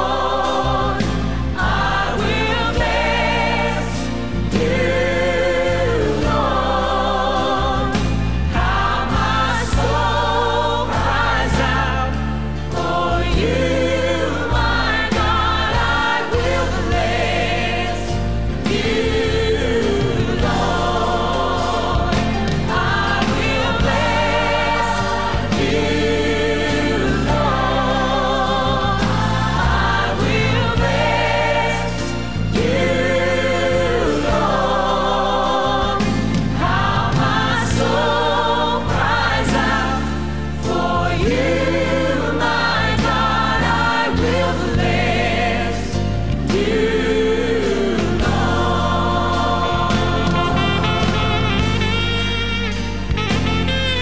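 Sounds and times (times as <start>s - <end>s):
choir singing with vibrato: 0.0s - 54.0s
instrumental backing with bass: 0.0s - 54.0s.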